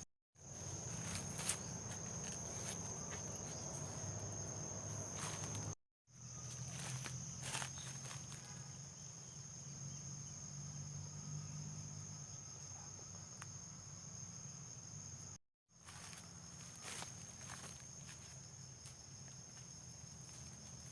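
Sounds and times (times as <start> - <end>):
insects droning: 0.4 - 20.9.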